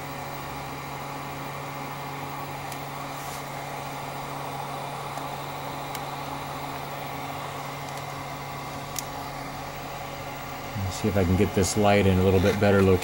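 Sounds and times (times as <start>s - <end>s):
hot air tool blowing: 0.0s - 13.0s.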